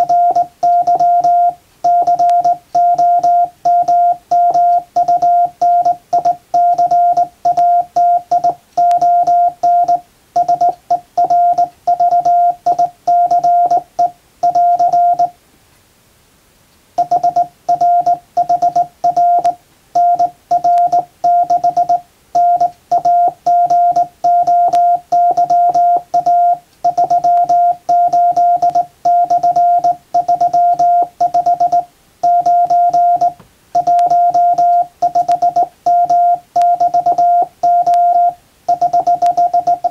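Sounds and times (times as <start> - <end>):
morse code tone: 0.0 - 15.4, 17.0 - 39.9.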